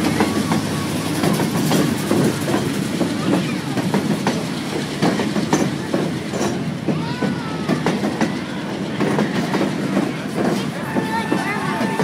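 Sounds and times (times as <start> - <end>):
steel wheels rumbling on rail: 0.0 - 12.0
wheels clacking over rail joints: 0.0 - 12.0.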